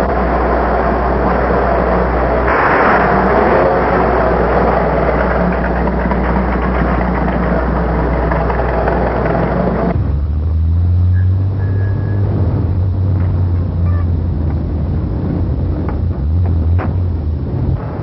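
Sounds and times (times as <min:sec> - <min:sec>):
low steady hum: 0:00.0 - 0:18.0
truck engine running: 0:00.0 - 0:18.0.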